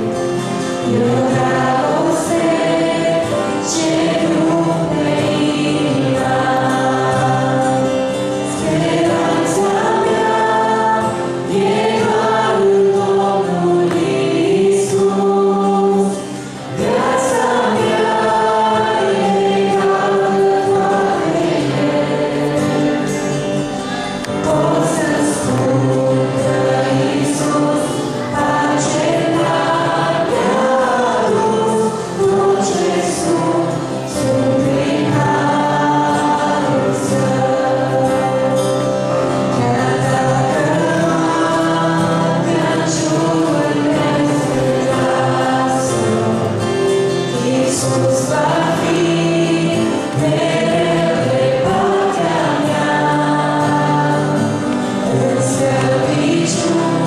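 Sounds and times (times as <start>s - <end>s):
acoustic guitar: 0.0s - 57.0s
vocal group singing a hymn: 0.0s - 57.0s.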